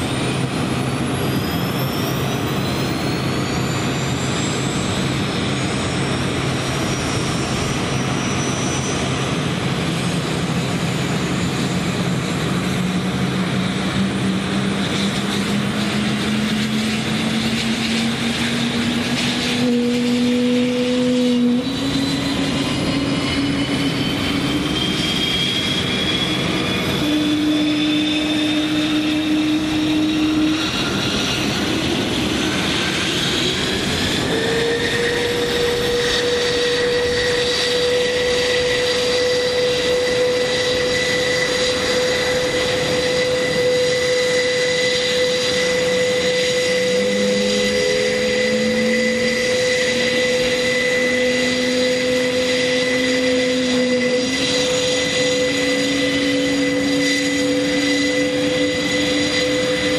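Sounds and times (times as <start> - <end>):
turboprop engines whine and drone: 0.0 - 59.9.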